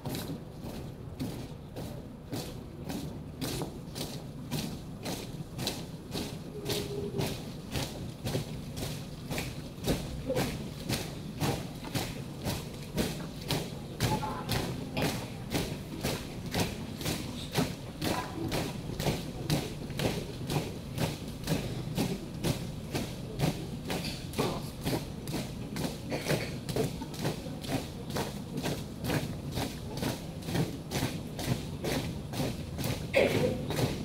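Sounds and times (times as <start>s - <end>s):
marching feet on wet pavement: 0.0s - 34.0s.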